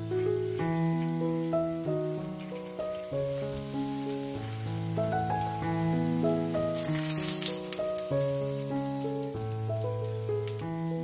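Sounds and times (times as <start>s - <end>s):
oil sizzling in pans: 0.0s - 11.0s.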